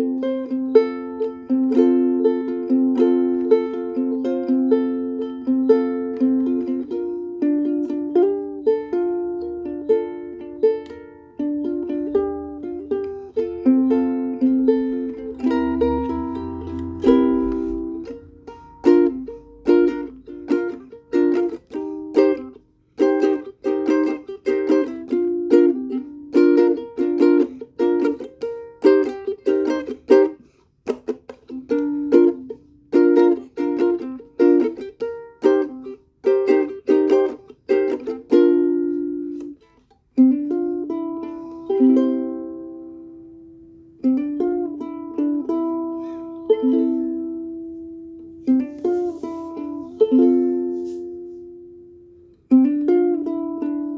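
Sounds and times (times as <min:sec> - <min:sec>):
ukulele chords strummed: 0:00.0 - 0:53.9.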